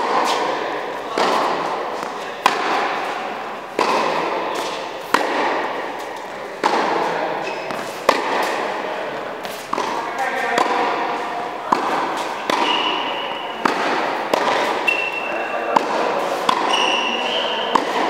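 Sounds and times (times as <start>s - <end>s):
tennis balls struck by rackets: 0.0s - 18.0s.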